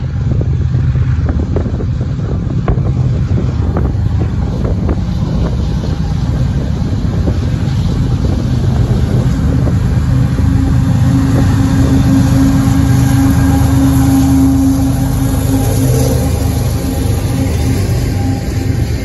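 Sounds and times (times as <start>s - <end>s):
diesel locomotive engine drone: 0.0s - 19.0s
steady low hum: 0.0s - 19.0s.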